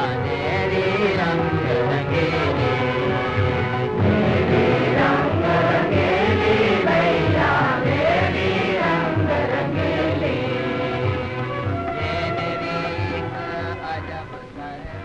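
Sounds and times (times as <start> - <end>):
choir singing with instruments: 0.0 - 14.8.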